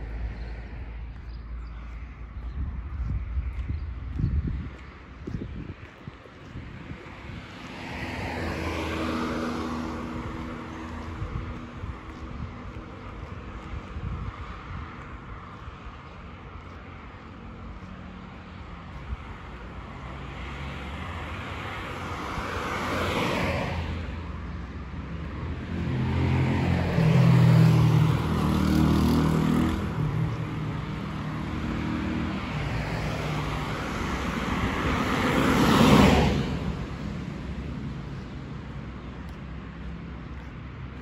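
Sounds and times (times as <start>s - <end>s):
cars passing: 0.0s - 41.0s.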